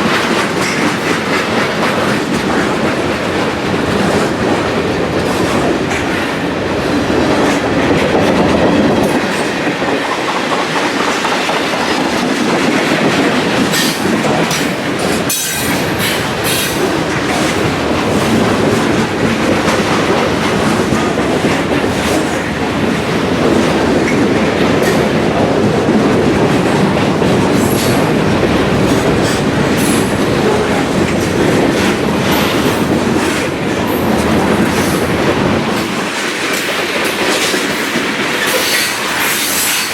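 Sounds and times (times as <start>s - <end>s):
railroad cars rolling past: 0.0s - 39.9s.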